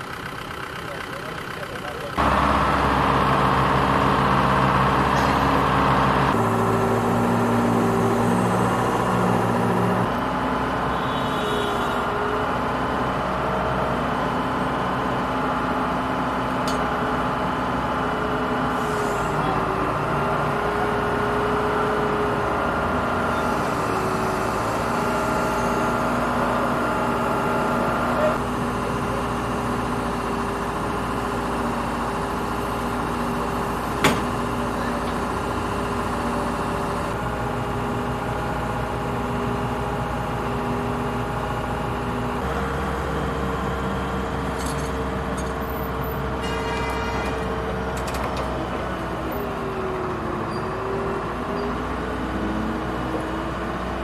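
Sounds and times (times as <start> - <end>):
crane engine running: 0.0 - 54.0.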